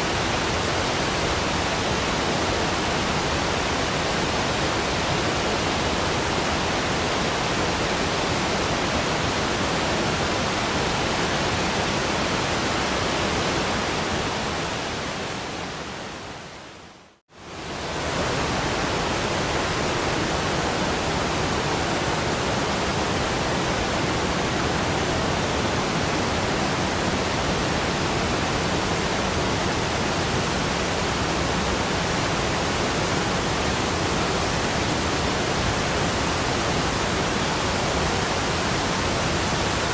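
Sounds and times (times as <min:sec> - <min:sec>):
rushing waterfall: 0:00.0 - 0:39.9.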